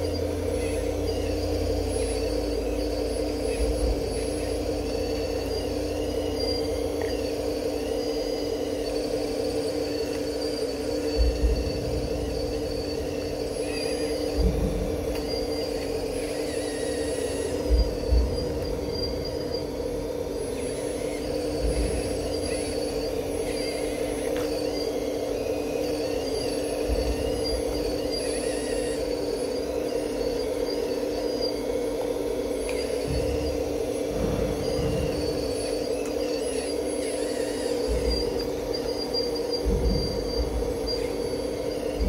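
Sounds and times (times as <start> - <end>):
electric motor whine: 0.0 - 42.0.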